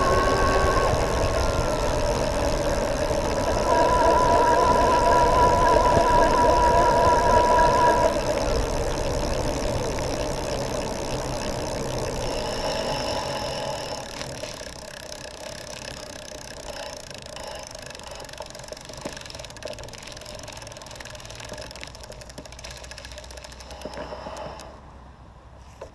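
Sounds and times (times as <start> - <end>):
electric bicycle motor whining hum: 0.0 - 24.8.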